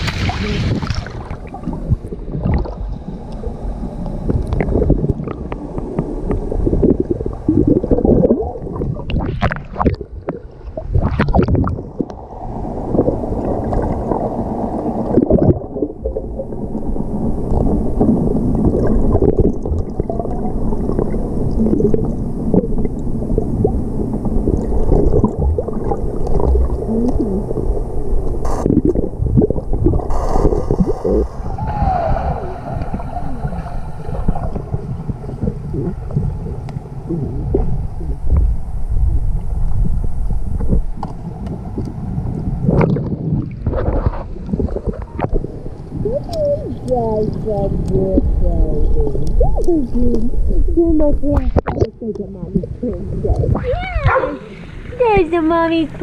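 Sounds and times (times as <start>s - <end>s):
water splashes: 0.0s - 38.6s, 39.4s - 56.0s
muffled underwater sloshing: 0.0s - 56.0s.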